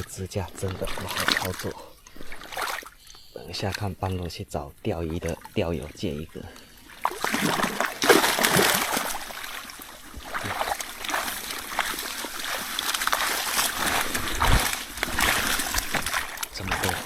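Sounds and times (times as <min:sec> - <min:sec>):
small splashes and drips: 0:00.0 - 0:03.9, 0:05.1 - 0:17.0
water splashing and streaming: 0:00.0 - 0:17.0.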